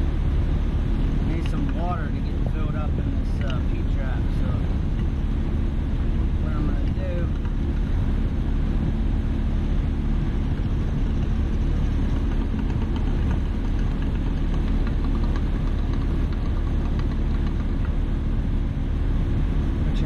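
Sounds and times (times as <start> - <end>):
hvac unit droning: 0.0 - 20.0.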